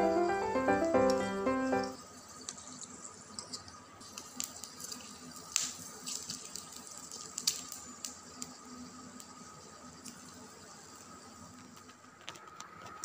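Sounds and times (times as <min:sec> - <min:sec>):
faint frying sizzle with pops: 0:00.0 - 0:13.0.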